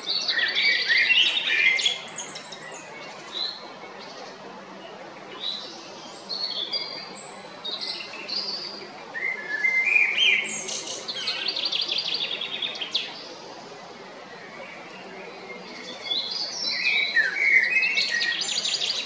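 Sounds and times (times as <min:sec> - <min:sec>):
blackbird singing: 0:00.0 - 0:19.0.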